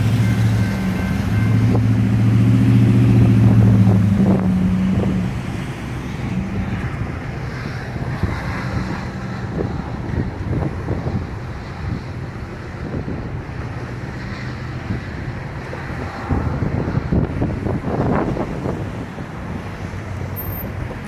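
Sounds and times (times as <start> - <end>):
diesel locomotive engine drone: 0.0 - 21.0
steady train rumble: 0.0 - 21.0
wind on microphone: 1.5 - 5.6, 6.2 - 21.0.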